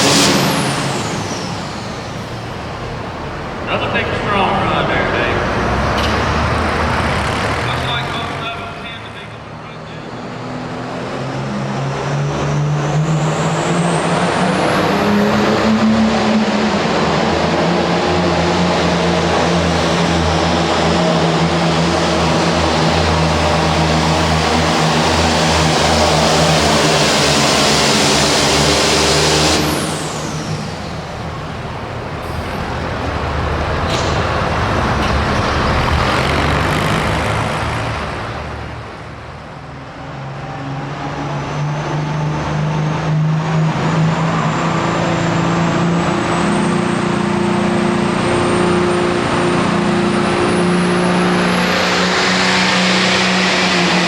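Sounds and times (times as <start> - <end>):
diesel tractor engine droning: 0.0 - 54.0.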